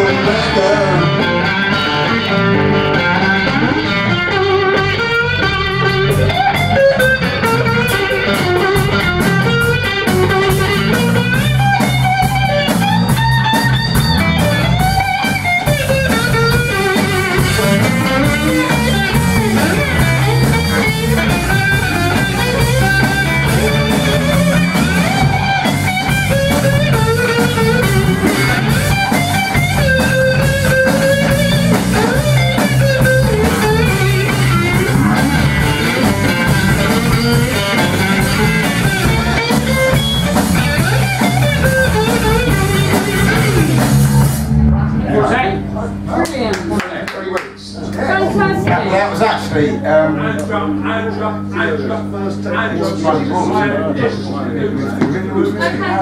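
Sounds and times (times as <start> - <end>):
blues band playing: 0.0 - 46.1
electric guitars: 0.0 - 46.1.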